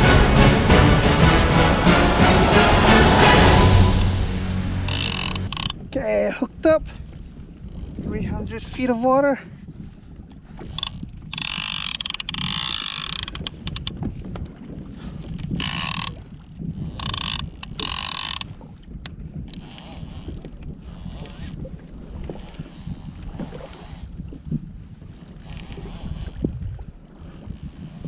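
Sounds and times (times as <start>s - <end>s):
water: 2.7s - 28.0s.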